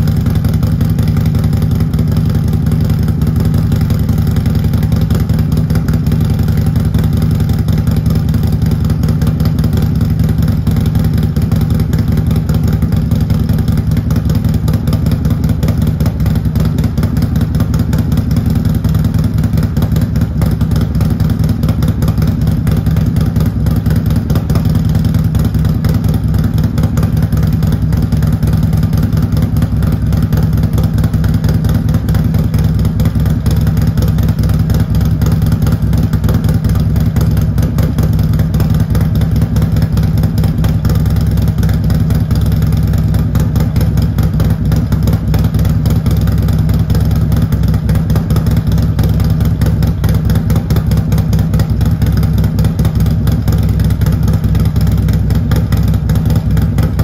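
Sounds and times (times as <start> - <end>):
motorcycle engine idling loudly: 0.0 - 57.0.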